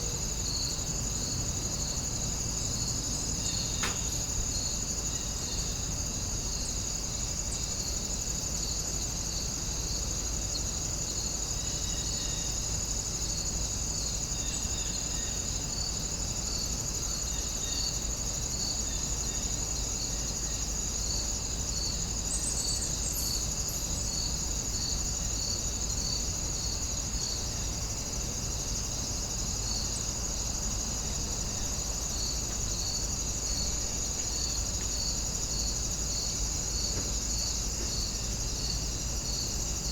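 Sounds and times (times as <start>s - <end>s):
insect chirp: 0.0s - 39.9s.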